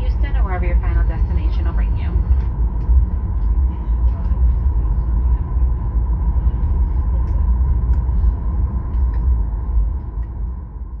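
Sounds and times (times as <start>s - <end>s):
aircraft cabin rumble: 0.0s - 11.0s
thin steady whine: 0.0s - 11.0s.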